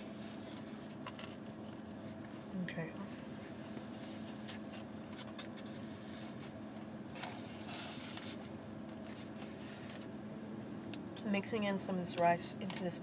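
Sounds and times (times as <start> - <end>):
vehicle cabin hum: 0.0 - 13.0.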